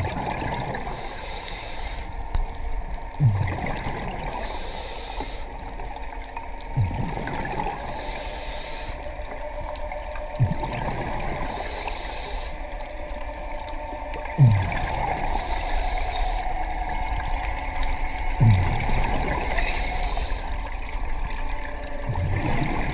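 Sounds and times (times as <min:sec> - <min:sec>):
exhale bubbling gurgle: 0:00.0 - 0:22.9.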